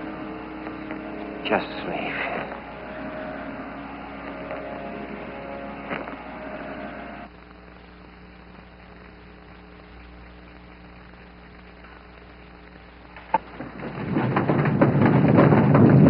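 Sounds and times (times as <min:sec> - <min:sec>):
faint held tones: 0:00.0 - 0:13.3
low hum: 0:00.0 - 0:16.0.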